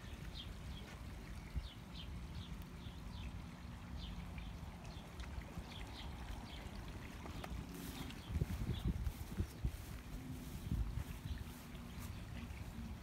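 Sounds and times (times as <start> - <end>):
running water rushing: 0.0 - 13.0
small birds chirping: 0.0 - 13.0.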